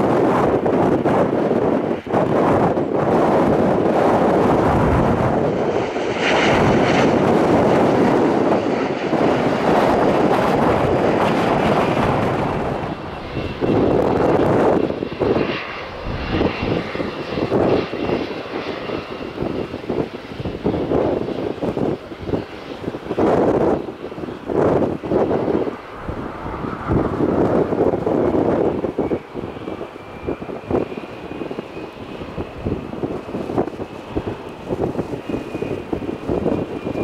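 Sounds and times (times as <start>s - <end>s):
jet engines roaring: 0.0s - 37.0s
wind buffeting microphone: 0.0s - 37.0s.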